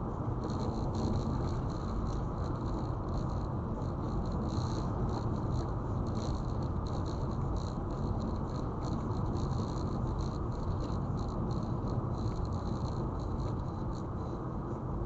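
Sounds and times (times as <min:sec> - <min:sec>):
car road and tyre noise: 0:00.0 - 0:15.0.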